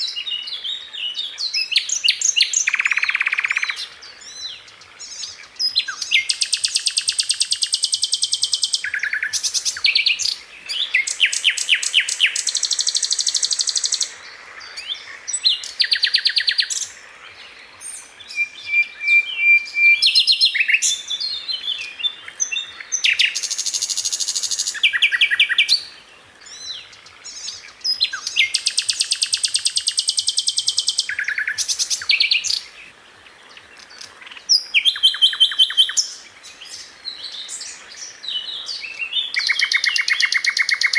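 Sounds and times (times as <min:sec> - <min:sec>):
flycatcher singing trills: 0:00.0 - 0:32.9.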